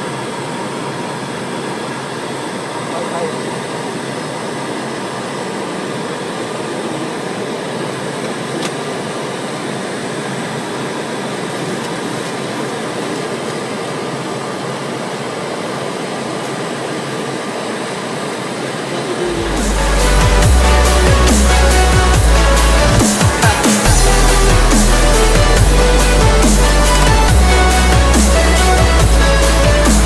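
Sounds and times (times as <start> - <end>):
rushing aircraft cabin noise: 0.0 - 30.0.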